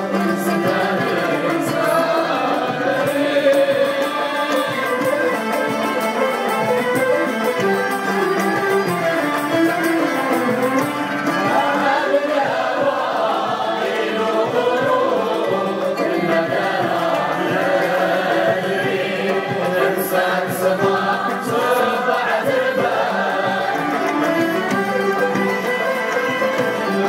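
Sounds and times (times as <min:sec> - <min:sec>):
people singing in chorus: 0:00.0 - 0:27.0
string ensemble playing: 0:00.0 - 0:27.0.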